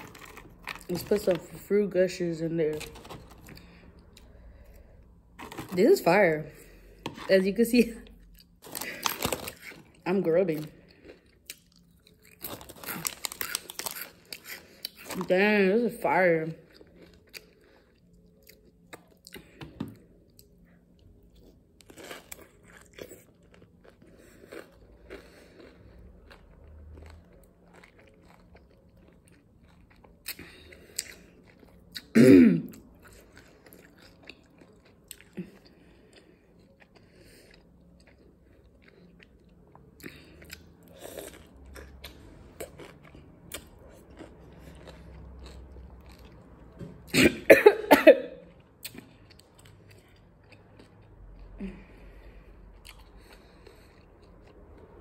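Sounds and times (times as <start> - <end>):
chewing and crunching: 0.0 - 1.7, 2.4 - 7.4, 8.0 - 15.4, 16.4 - 46.8, 48.5 - 55.0.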